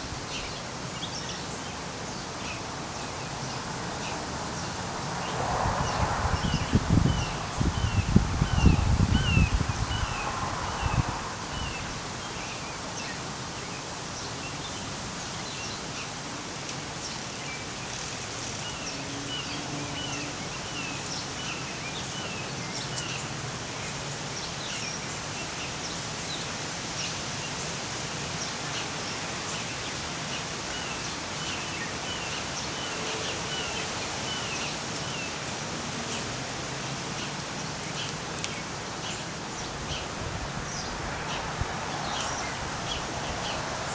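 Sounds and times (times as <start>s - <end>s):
outdoor background hiss: 0.0s - 43.9s.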